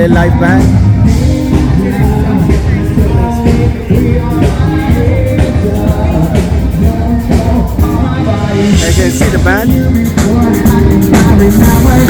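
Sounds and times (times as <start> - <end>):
live band playing: 0.0 - 12.0
person singing: 0.0 - 12.0.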